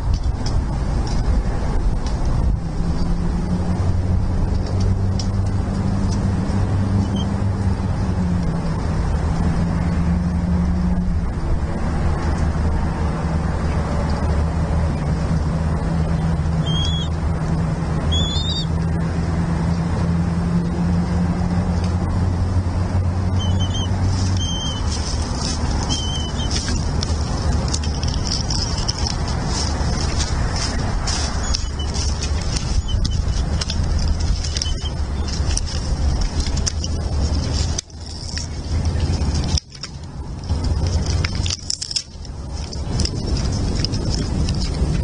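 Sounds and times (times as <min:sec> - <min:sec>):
rushing noise: 0:00.0 - 0:45.0
steady low drone: 0:00.0 - 0:45.0.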